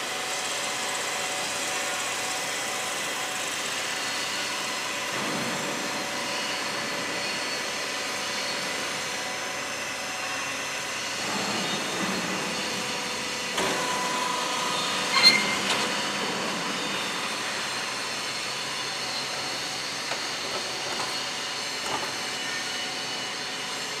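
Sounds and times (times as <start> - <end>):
electric motors humming: 0.0 - 24.0.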